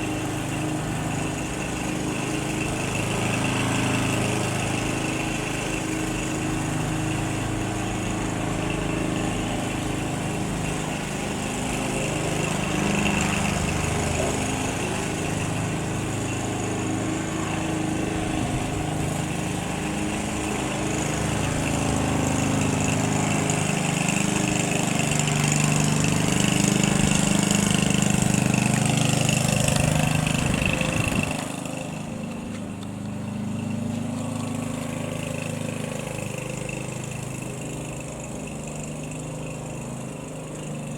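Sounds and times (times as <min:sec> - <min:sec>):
propeller aircraft engine running: 0:00.0 - 0:40.9.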